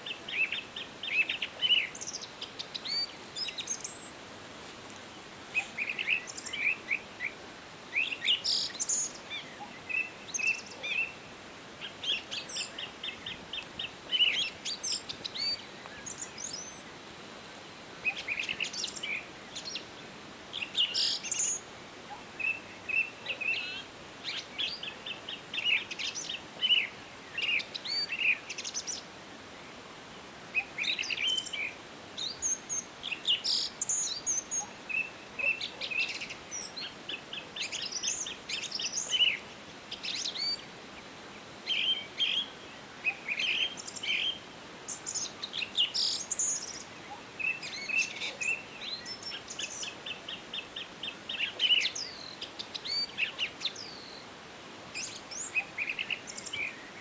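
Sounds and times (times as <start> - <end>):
faint forest hiss: 0.0 - 57.0
songbirds singing and calling: 0.0 - 57.0.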